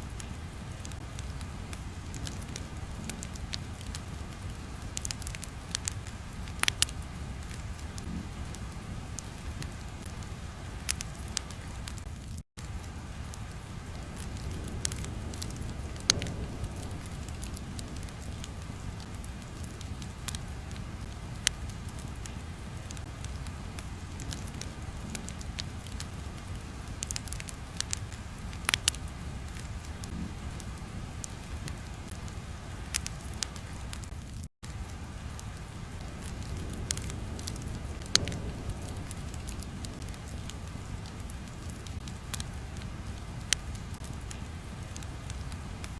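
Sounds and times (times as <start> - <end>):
fire popping: 0.0 - 45.9
fire rumbling: 0.0 - 45.9.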